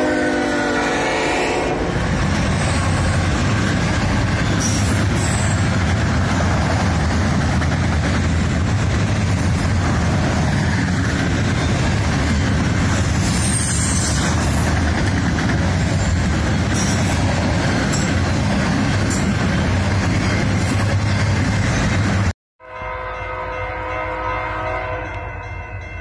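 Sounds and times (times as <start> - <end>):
train rolling on rails: 0.0 - 26.0.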